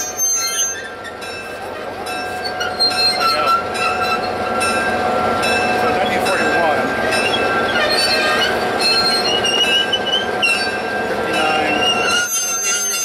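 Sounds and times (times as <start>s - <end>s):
metal-on-metal screeching: 0.0s - 4.9s, 6.1s - 13.0s
diesel locomotive engine rumbling: 0.0s - 13.0s.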